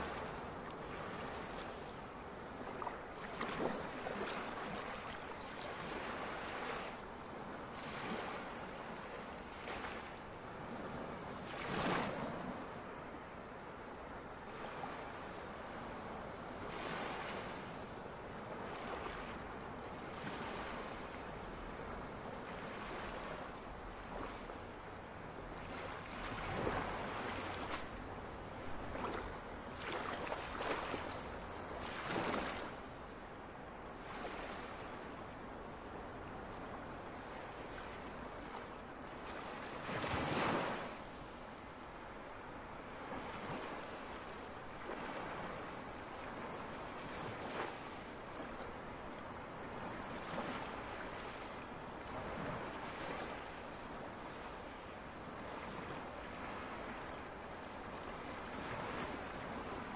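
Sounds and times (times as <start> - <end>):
ocean surf on sandy beach: 0.0 - 59.9.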